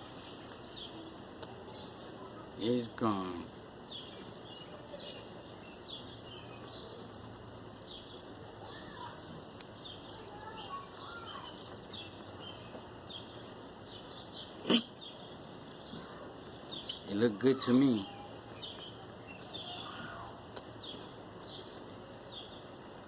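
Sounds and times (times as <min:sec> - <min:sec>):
outdoor background noise: 0:00.0 - 0:23.0
small birds singing: 0:00.0 - 0:23.0.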